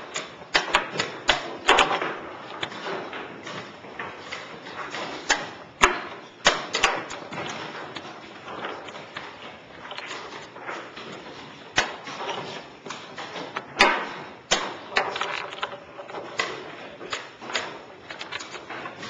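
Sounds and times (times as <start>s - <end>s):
steady background noise: 0.0s - 19.0s
chess pieces knocking on board: 0.1s - 19.0s.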